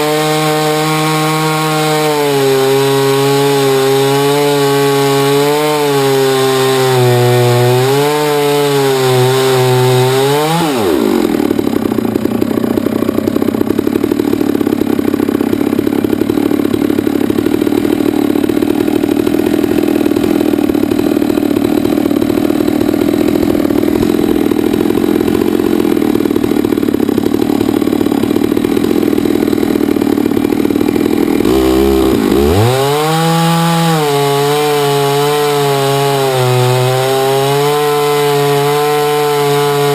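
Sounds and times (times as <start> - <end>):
chainsaw mill engine cutting log: 0.0 - 39.9.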